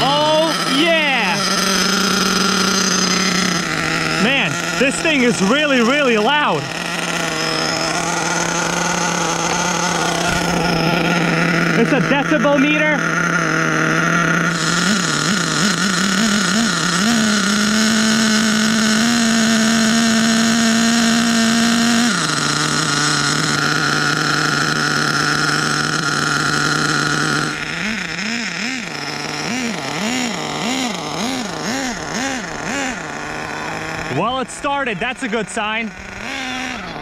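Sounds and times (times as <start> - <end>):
nitro engine running loud: 0.0 - 37.0.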